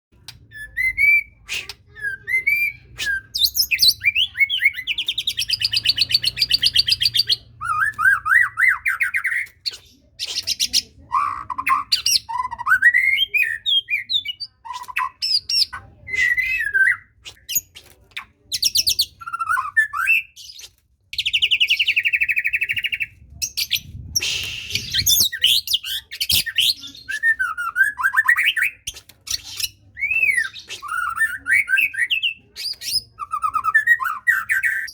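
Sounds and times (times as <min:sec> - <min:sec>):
songbird singing whistled phrases: 0:00.3 - 0:17.8, 0:18.5 - 0:34.9.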